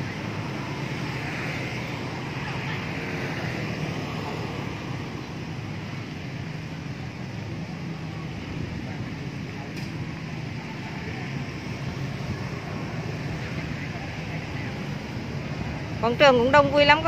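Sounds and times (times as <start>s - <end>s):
motorbike traffic hum: 0.0s - 17.0s.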